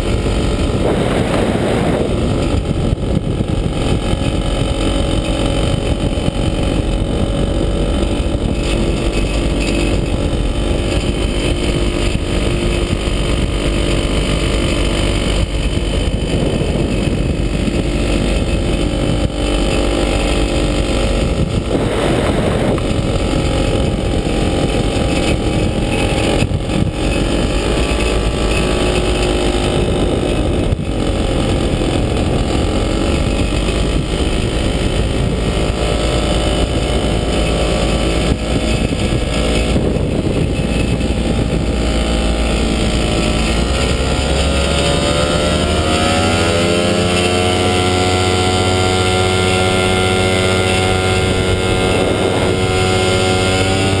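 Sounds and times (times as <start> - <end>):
air rushing past: 0.0 - 44.0
light aircraft engine drone: 0.0 - 54.0.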